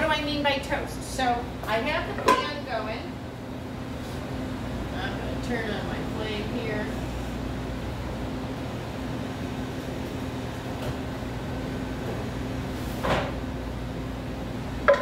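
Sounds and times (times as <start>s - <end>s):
exhaust hood hum: 0.0s - 15.0s.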